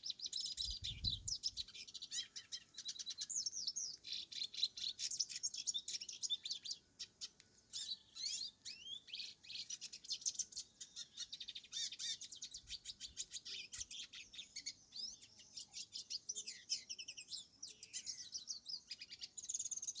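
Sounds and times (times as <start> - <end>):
bird twittering song: 0.0 - 20.0.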